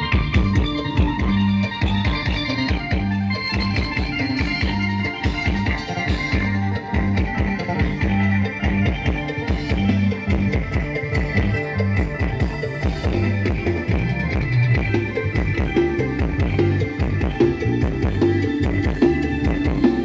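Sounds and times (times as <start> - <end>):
band music through loudspeakers: 0.0 - 20.0
drum kit beat: 0.0 - 20.0
held bass notes: 0.0 - 20.0.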